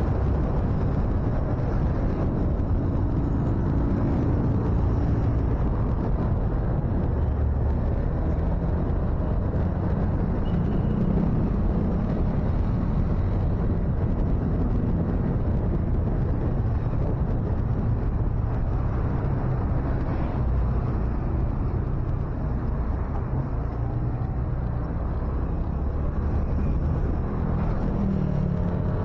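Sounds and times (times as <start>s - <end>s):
road and traffic noise: 0.0s - 29.0s.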